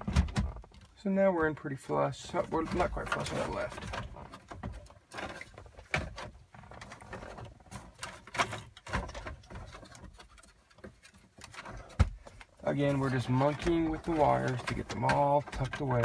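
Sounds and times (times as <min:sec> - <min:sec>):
cables rustling and knocking: 0:00.0 - 0:16.0
metal chassis shifting: 0:02.4 - 0:16.0.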